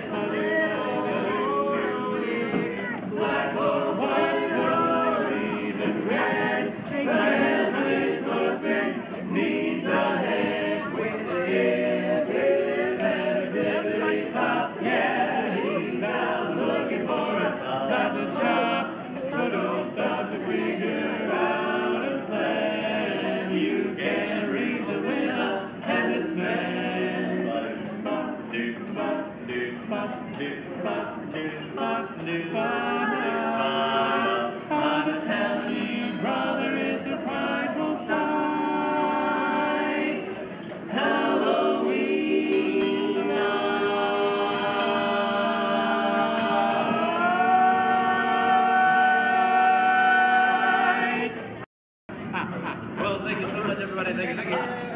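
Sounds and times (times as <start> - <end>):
male quartet singing a cappella: 0.0 - 51.5.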